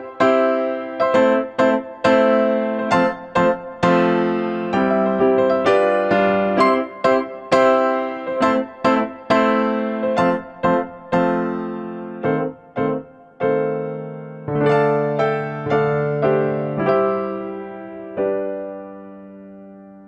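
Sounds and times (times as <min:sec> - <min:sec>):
piano-tone keyboard melody: 0:00.0 - 0:20.0.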